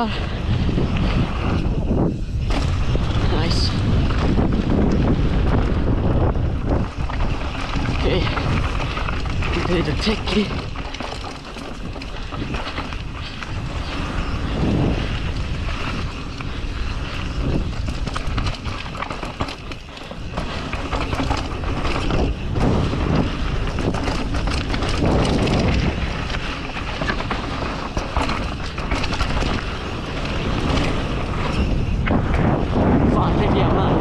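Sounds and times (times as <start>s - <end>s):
bike rattling over bumps: 0.0s - 34.0s
bike tyres on dirt: 0.0s - 34.0s
wind rushing over microphone: 0.0s - 34.0s.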